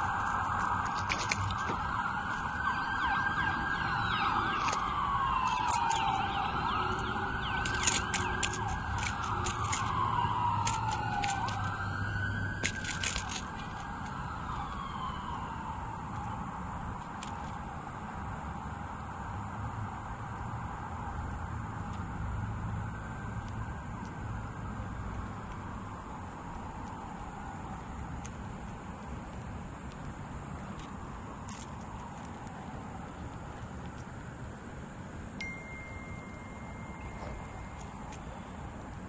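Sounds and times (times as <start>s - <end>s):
emergency vehicle siren wailing: 0.0s - 28.9s, 36.2s - 39.0s.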